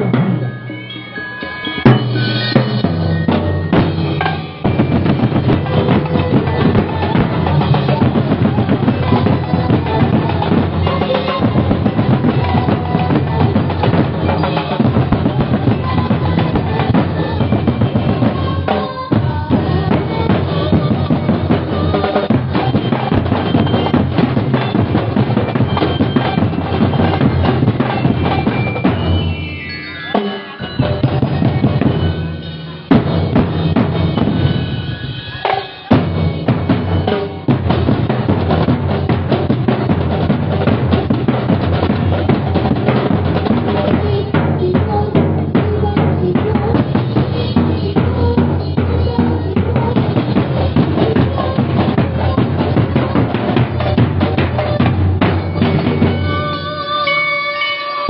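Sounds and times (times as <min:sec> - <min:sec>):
drum corps playing a beat: 0:00.0 - 0:56.6.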